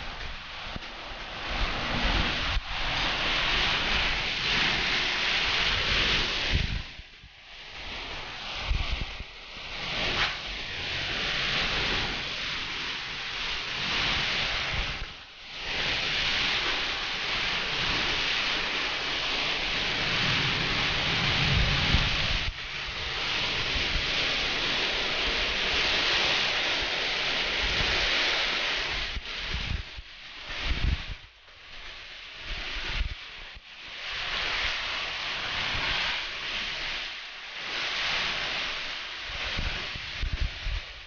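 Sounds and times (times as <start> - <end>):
wind buffeting microphone: 0.0 - 31.4, 32.4 - 37.0, 37.7 - 41.0
gusting wind: 0.0 - 41.0
heavy rain: 0.0 - 41.0.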